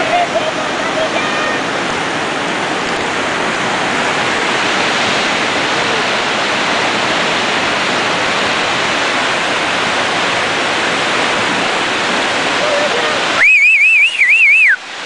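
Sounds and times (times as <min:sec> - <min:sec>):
river rushing through rapid: 0:00.0 - 0:15.0.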